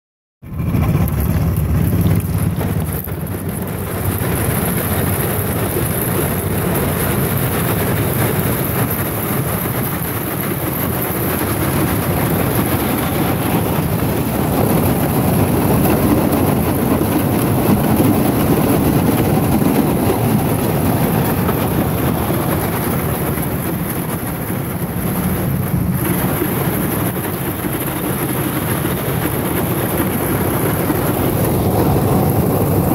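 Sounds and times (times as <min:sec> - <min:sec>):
boat motor running: 0:00.4 - 0:32.9.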